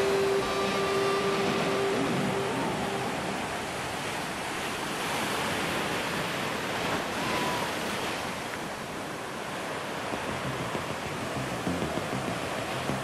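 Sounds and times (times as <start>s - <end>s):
waves washing against seawall: 0.0s - 13.0s.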